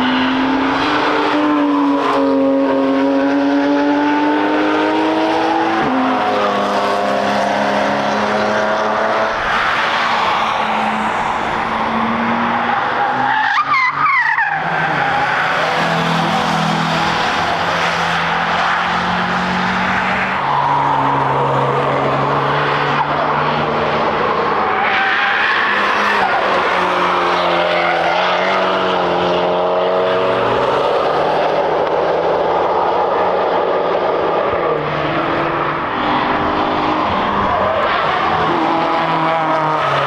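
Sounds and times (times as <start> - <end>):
racing car engines revving: 0.0 - 40.0.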